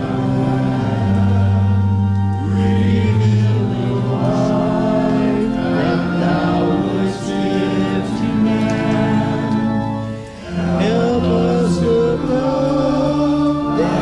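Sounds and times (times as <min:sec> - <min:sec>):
group singing a hymn: 0:00.0 - 0:14.0
sustained chordal accompaniment: 0:00.0 - 0:14.0.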